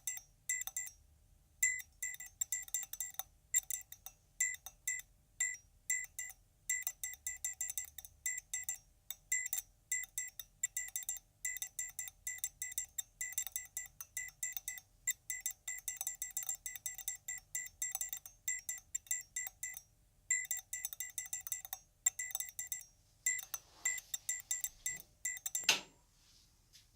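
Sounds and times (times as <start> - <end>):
electrical ticks and buzzes: 1.6 - 25.9.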